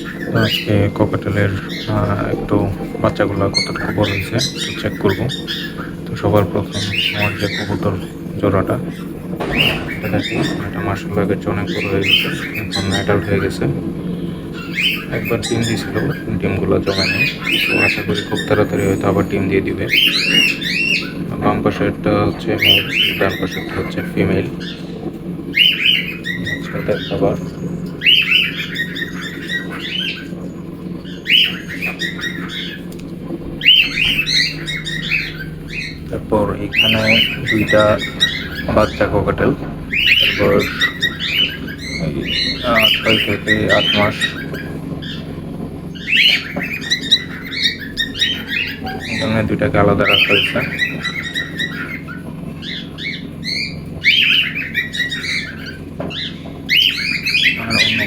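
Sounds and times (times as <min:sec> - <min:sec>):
cockatiels chirping: 0:00.0 - 0:58.0
steady low hum: 0:00.0 - 0:58.0.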